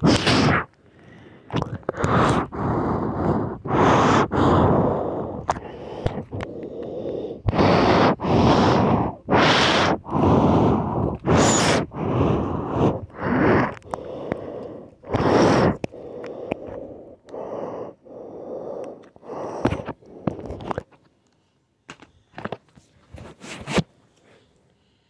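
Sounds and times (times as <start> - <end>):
loud breathing close to microphone: 0.0 - 20.8.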